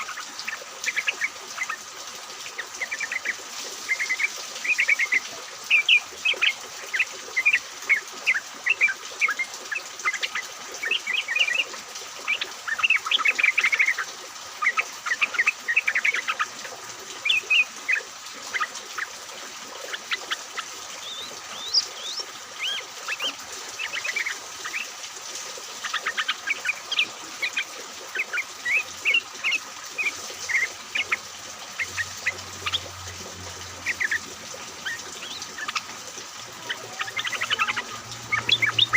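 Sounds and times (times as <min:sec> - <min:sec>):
bulbuls chirping: 0:00.0 - 0:19.2, 0:19.8 - 0:38.9.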